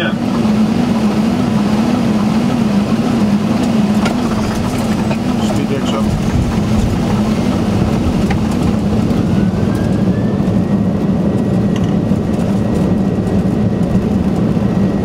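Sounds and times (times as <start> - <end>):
rumble of engines and airflow: 0.0 - 15.0.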